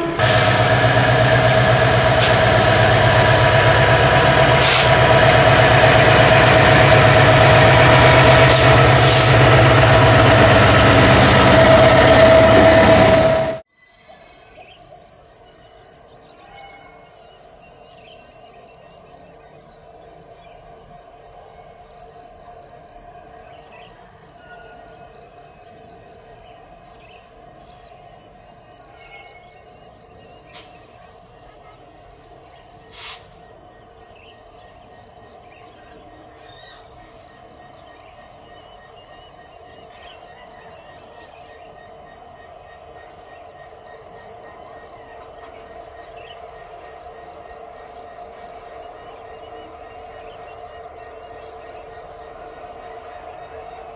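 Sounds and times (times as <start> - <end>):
insects chorus pulsing: 0.0 - 13.6, 17.3 - 53.9.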